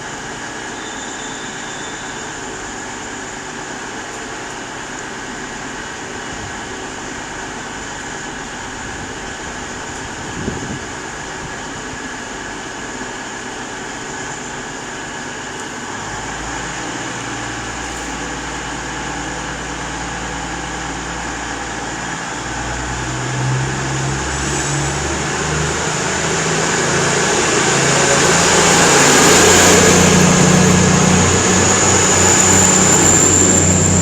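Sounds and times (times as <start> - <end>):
train diesel engines humming: 0.0 - 34.0.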